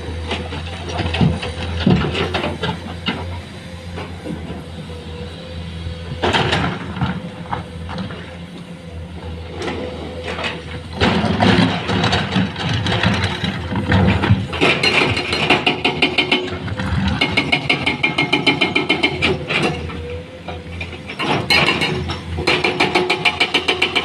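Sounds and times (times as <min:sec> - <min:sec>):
machinery engine drone: 0:00.0 - 0:22.7.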